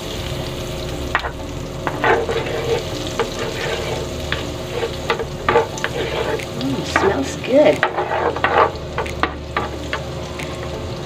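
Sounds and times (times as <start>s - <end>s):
butter sizzling in a pan: 0.0s - 11.0s
utensil scraping and tapping pan: 1.2s - 10.1s.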